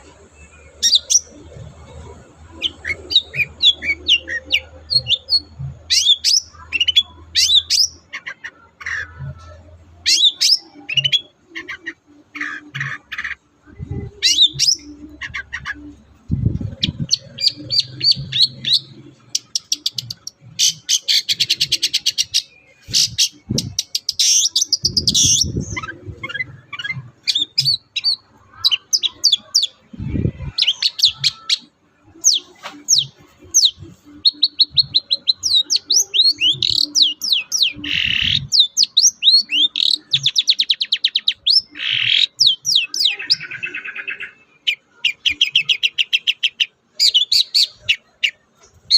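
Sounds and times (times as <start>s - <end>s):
bird singing trills and whistles: 2.5s - 9.1s, 10.0s - 15.8s, 16.5s - 29.8s, 30.4s - 48.9s.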